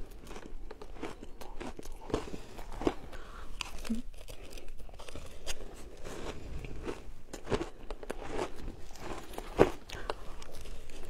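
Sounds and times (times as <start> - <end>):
ice crunching while chewed: 0.0 - 11.0.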